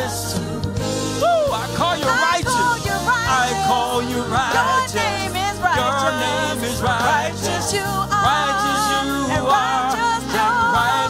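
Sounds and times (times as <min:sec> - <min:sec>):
keyboard and bass chords: 0:00.0 - 0:11.0.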